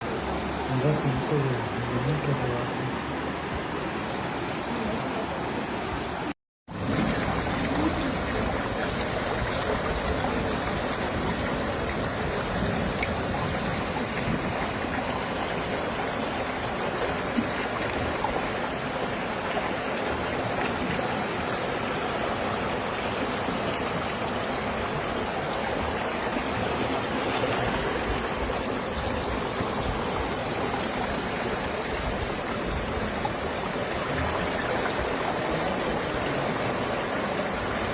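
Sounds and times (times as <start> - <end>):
heavy rain: 0.0 - 37.9
running floodwater: 0.0 - 37.9.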